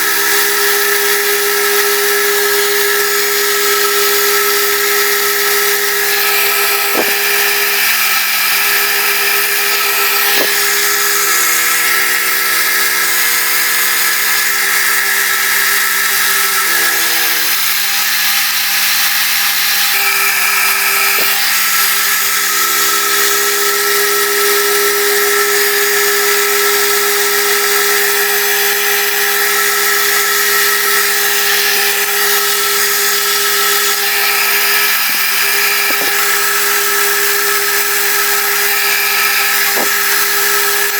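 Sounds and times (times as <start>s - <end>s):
milling machine cutting: 0.0s - 40.9s.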